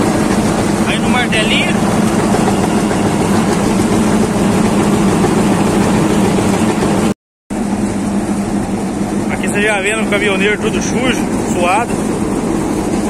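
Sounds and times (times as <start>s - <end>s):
machine hum with rushing noise: 0.0s - 13.0s.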